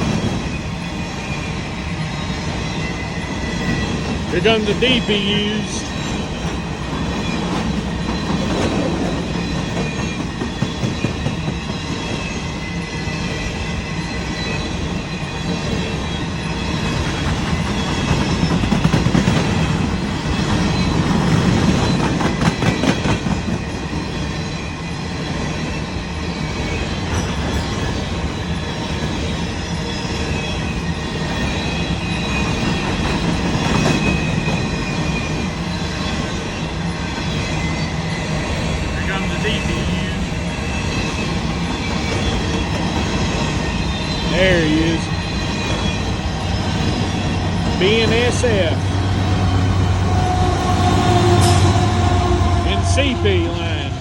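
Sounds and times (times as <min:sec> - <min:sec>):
high wheel squeal: 0:00.0 - 0:54.0
train wheels rumbling on rail: 0:00.0 - 0:54.0
clickety-clack over rail joints: 0:03.2 - 0:54.0.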